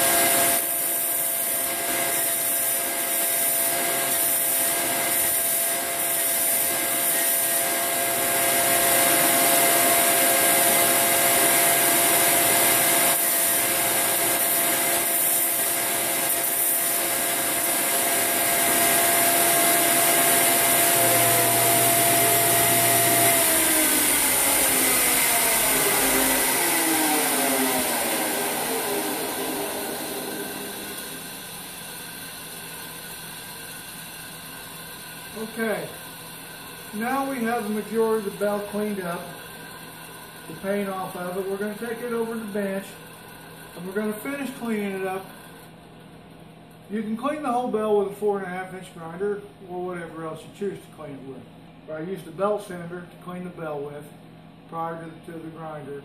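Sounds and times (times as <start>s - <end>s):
belt sander grinding metal: 0.0s - 45.7s.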